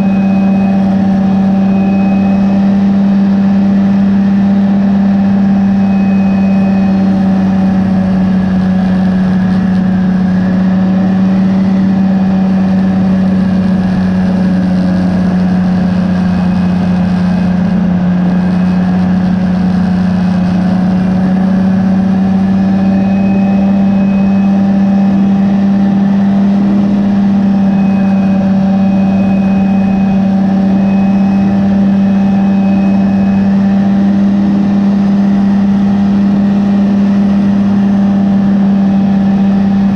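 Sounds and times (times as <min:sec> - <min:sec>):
two-stroke aircraft engine droning: 0:00.0 - 0:39.9.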